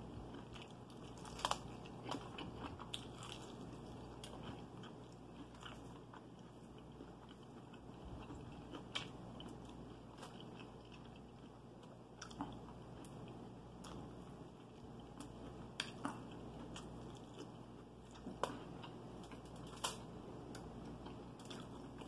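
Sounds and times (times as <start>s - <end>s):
chewing fried chicken: 0.0s - 22.0s.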